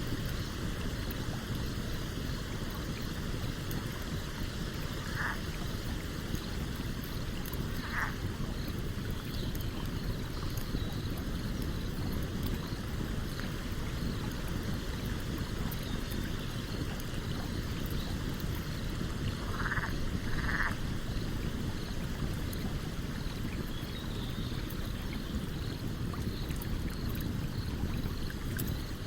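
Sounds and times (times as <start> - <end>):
campfire crackling: 0.2 - 23.8.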